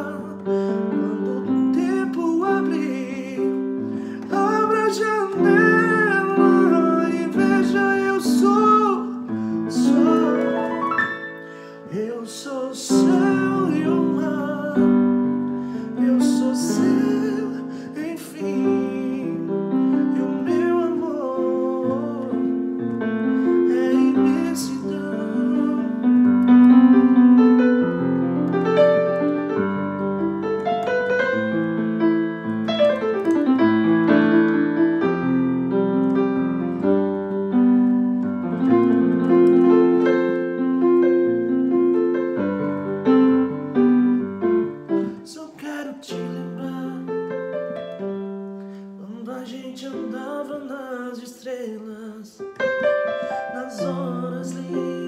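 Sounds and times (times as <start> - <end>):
piano keyboard playing chords: 0.0 - 51.2, 52.4 - 55.0.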